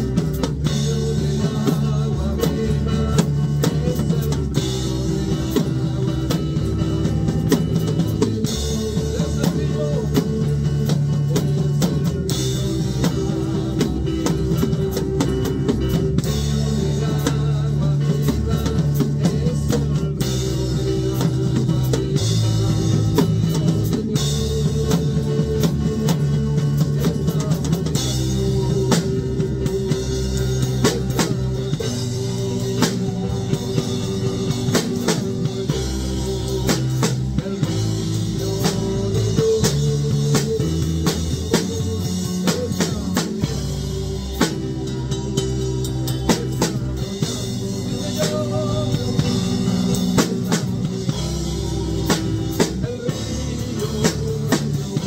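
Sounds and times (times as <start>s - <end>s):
band playing instrumental: 0.0s - 55.0s
drum kit and cymbal hits: 0.0s - 55.0s.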